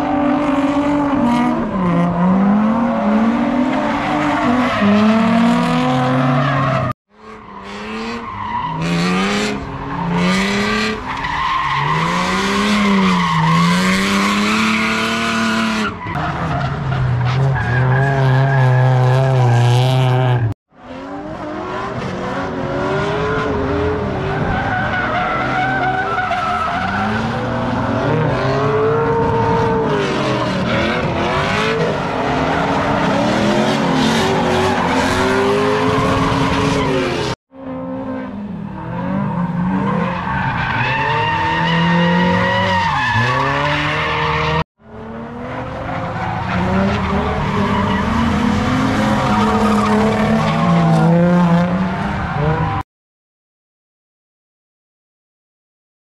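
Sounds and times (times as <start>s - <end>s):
tires squealing and skidding: 0.0s - 37.4s, 38.7s - 44.6s, 45.4s - 52.8s
car engines revving: 0.0s - 52.8s.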